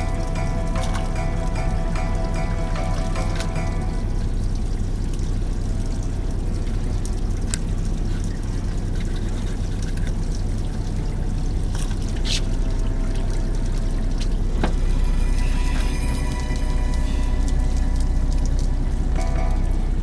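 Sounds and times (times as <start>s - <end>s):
water pouring: 0.0s - 20.0s.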